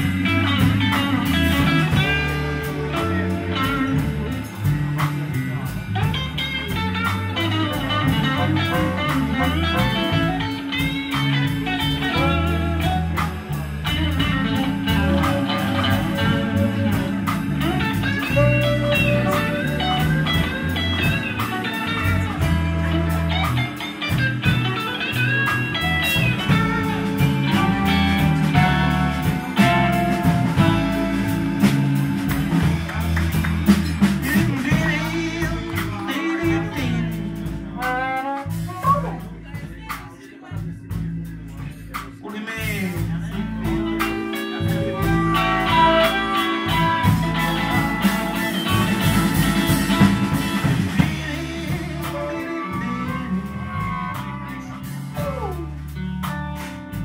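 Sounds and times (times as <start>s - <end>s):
blues harmonica wailing: 0.0s - 4.9s, 5.9s - 33.1s, 33.8s - 39.3s, 43.6s - 56.2s
live blues band playing: 0.0s - 57.0s.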